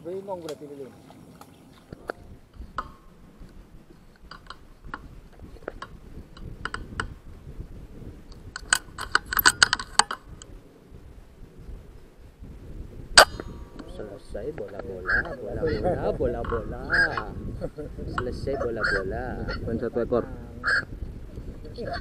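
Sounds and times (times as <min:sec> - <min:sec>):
wind rumble on microphone: 0:00.2 - 0:22.0.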